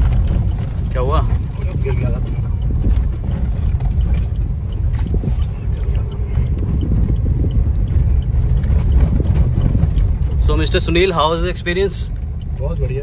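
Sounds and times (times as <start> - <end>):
engine and tyres rumbling: 0.0 - 13.0
faint rattles and ticks: 0.0 - 13.0.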